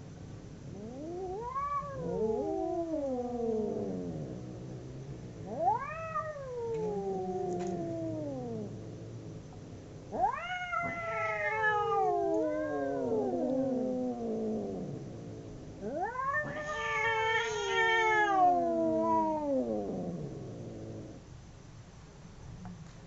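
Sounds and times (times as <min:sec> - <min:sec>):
cats yowling: 0:00.7 - 0:04.4, 0:05.4 - 0:09.5, 0:10.1 - 0:21.1.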